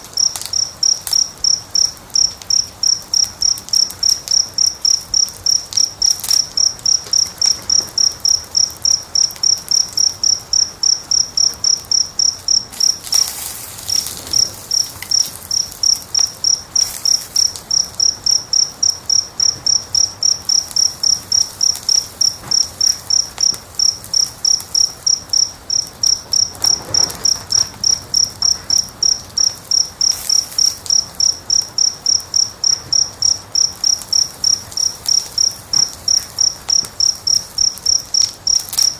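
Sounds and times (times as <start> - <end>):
cricket chirping: 0.0 - 38.9
wood fire crackling: 0.0 - 38.9.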